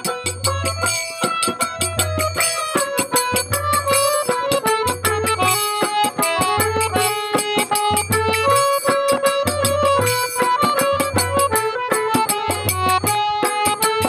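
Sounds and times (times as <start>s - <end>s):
drum beat: 0.0s - 14.0s
harmonium melody: 0.0s - 14.0s.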